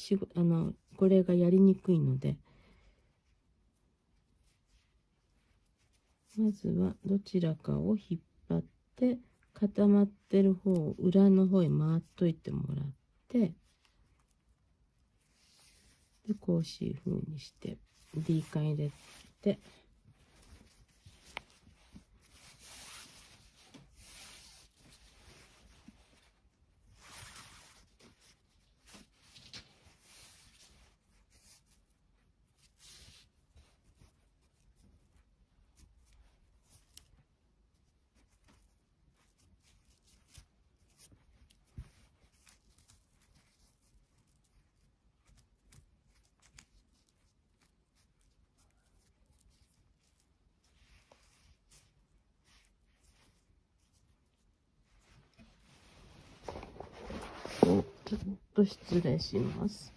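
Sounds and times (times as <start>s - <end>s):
paracord rustling: 2.9s - 6.4s, 12.0s - 59.9s.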